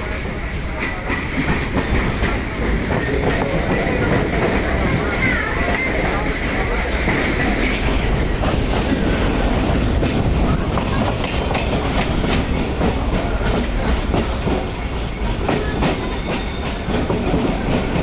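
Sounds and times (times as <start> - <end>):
train rumbling: 0.0 - 18.0
wheels clacking over rail joints: 0.0 - 18.0.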